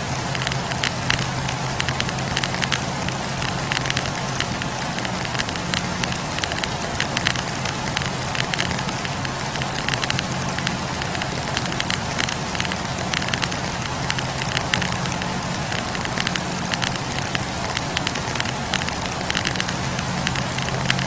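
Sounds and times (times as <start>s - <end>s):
campfire crackling and popping: 0.0s - 21.0s
low rumble of flames: 0.0s - 21.0s.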